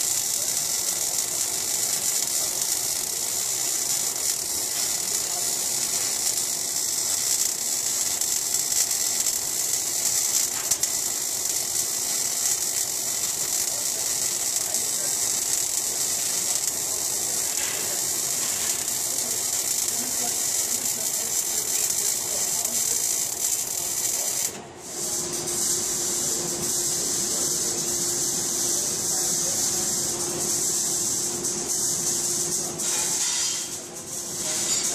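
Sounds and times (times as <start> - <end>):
welding arc crackling hiss: 0.0 - 34.9.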